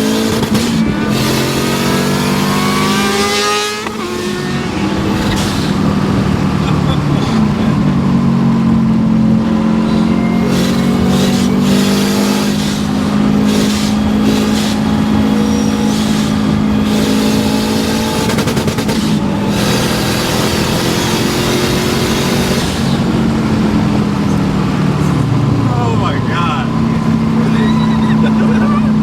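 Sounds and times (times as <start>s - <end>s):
rally car engine pulling hard: 0.0s - 29.0s.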